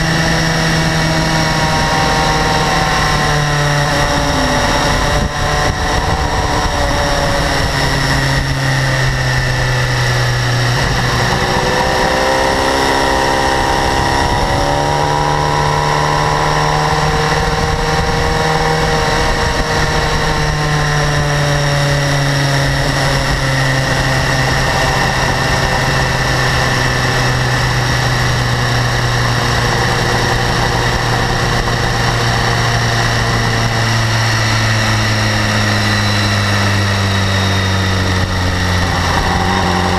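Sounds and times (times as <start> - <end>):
high-frequency engine ticking: 0.0 - 39.9.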